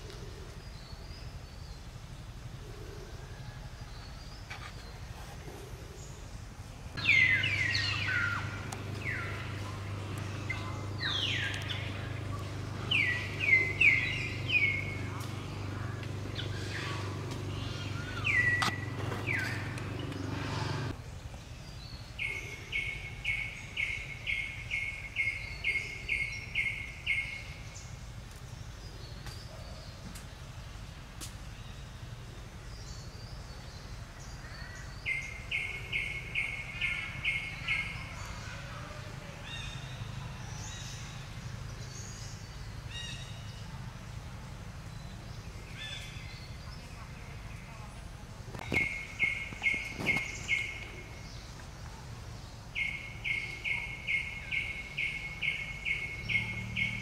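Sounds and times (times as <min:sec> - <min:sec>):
birds chirping: 0:00.0 - 0:57.0
low steady hum: 0:00.0 - 0:57.0.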